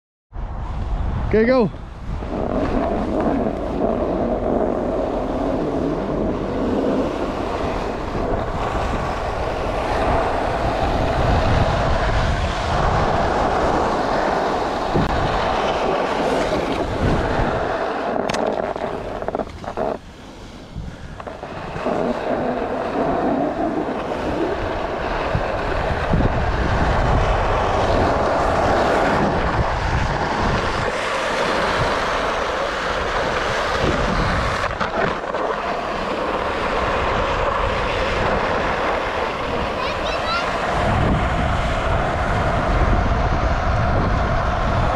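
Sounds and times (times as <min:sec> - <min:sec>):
wind rushing over microphone: 0:00.3 - 0:44.9
skis scraping on snow: 0:02.1 - 0:44.9.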